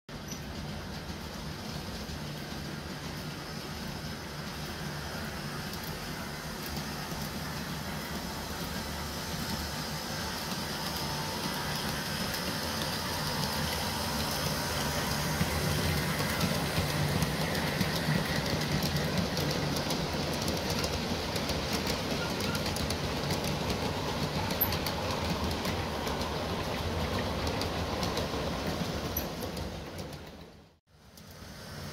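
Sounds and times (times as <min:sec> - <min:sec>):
wheels clicking over rail joints: 0:00.1 - 0:31.4
model train motor humming: 0:01.1 - 0:28.3.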